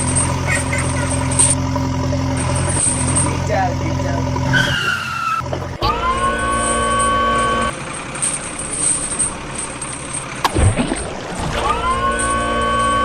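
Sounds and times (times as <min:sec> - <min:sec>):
vehicle engine rising in pitch: 0:00.0 - 0:13.0.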